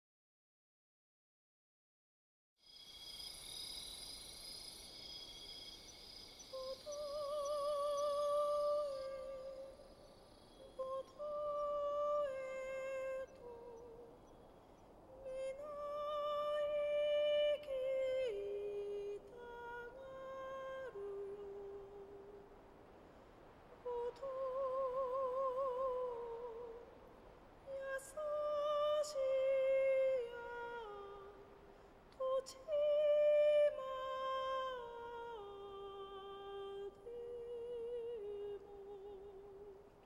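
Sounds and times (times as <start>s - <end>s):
insects trilling: 2.6s - 39.9s.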